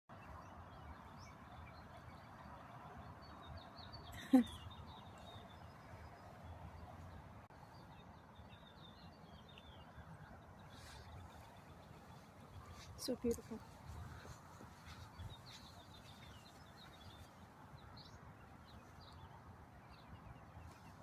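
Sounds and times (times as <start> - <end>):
low outdoor background: 0.1 - 21.0
small birds chirping: 0.1 - 21.0.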